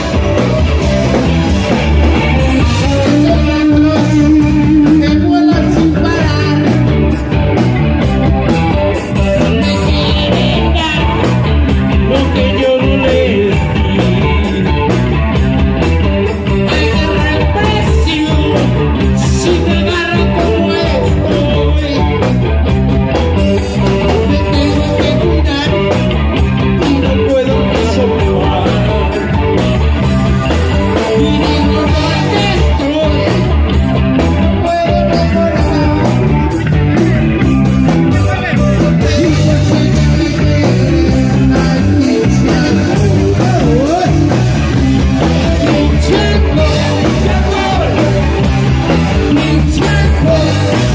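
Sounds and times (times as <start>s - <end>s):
guitar: 0.0s - 50.9s
live rock music: 0.0s - 50.9s
man singing: 2.2s - 7.3s, 8.9s - 15.3s, 16.4s - 22.5s, 23.5s - 50.9s.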